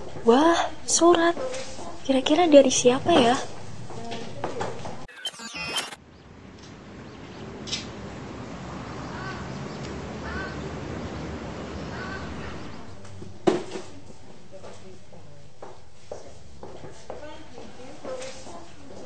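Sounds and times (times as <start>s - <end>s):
background noise: 0.0s - 19.0s.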